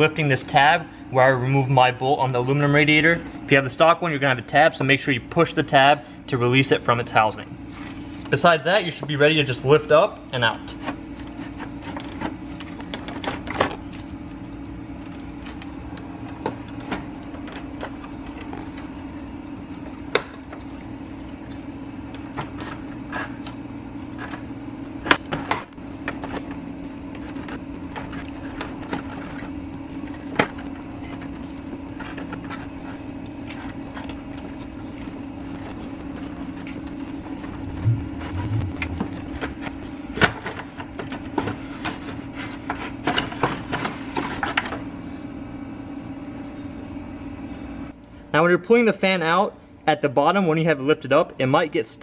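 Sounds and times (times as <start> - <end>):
steady low hum: 0.0 - 48.6.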